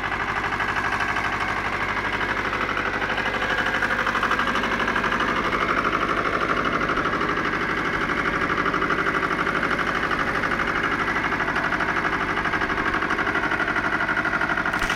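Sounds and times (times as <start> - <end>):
diesel tractor engine running: 0.0 - 14.9.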